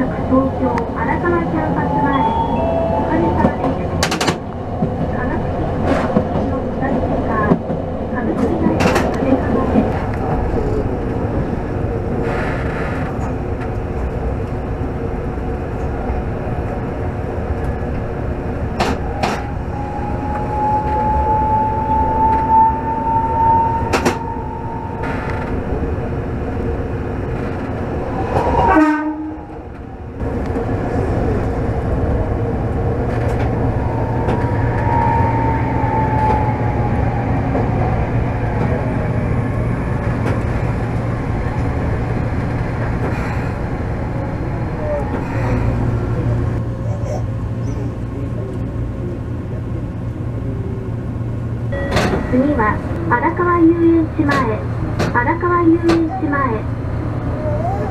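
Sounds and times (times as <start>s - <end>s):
tram rumble: 0.0s - 57.9s.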